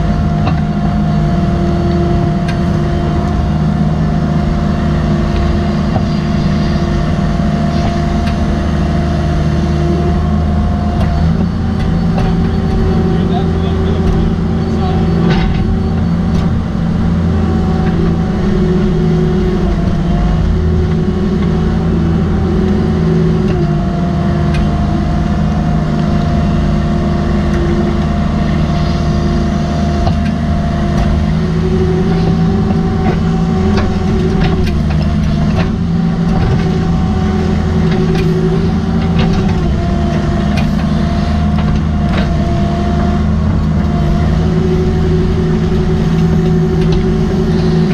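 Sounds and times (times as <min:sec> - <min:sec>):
diesel engine running under load: 0:00.0 - 0:47.9
hydraulic whine: 0:00.0 - 0:47.9.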